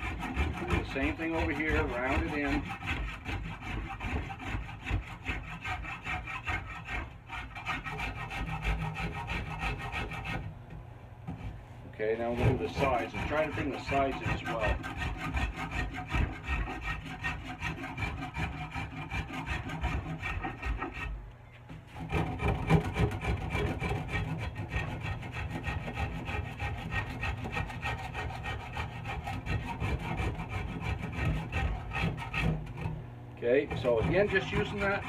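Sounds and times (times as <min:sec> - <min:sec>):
rasp scraping wooden handle: 0:00.0 - 0:10.5, 0:11.3 - 0:35.0.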